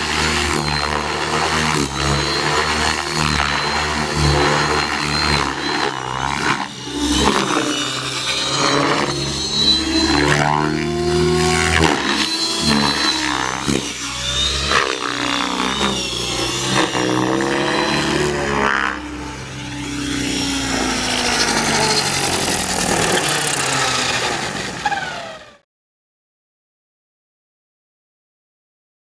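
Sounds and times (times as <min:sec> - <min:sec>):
rc helicopter motor whine: 0:00.0 - 0:25.7.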